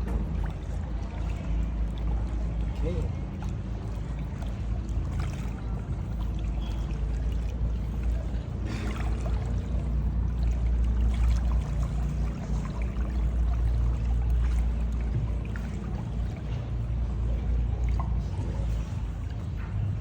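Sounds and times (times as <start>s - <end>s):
low rumble: 0.0s - 20.0s
water splashing and trickling: 0.0s - 20.0s.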